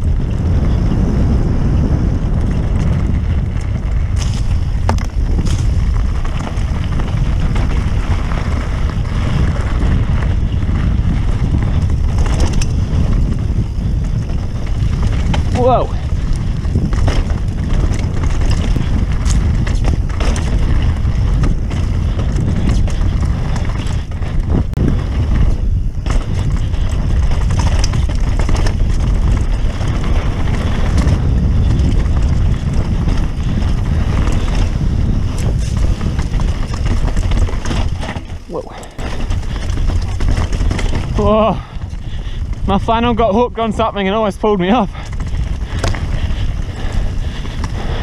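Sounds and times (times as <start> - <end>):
bike clattering over bumps: 0.0 - 48.0
bike tyres on dirt and stones: 0.0 - 48.0
wind buffeting microphone: 0.0 - 48.0.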